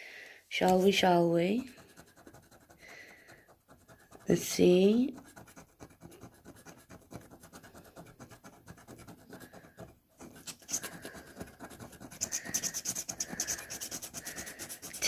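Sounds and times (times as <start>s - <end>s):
scratch-off card being scratched: 1.6s - 15.0s.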